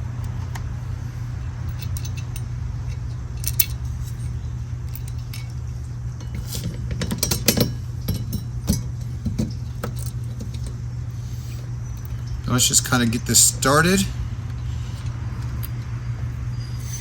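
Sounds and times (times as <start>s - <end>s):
steady low hum: 0.0s - 17.0s
small metal hardware clinking: 1.2s - 14.0s, 14.8s - 15.9s.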